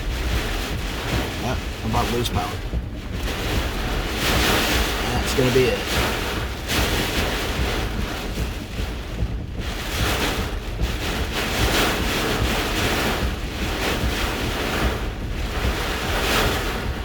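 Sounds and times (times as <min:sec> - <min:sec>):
low wind rumble on microphone: 0:00.0 - 0:17.0
strong wind buffeting a vehicle: 0:00.0 - 0:17.0.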